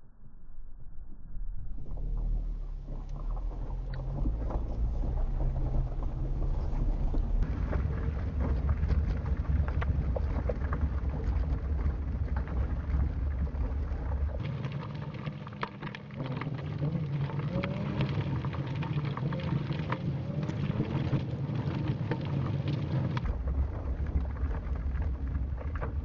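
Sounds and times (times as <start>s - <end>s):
vehicle engine and road rumble: 1.4s - 26.0s
gravel crunching under tyres: 1.8s - 26.0s.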